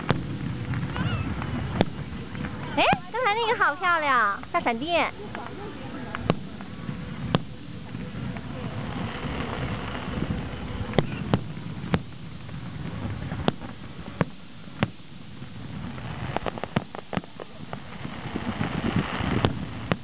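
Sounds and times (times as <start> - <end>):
fireworks bursting: 0.0 - 20.0
steady background hiss: 0.0 - 20.0.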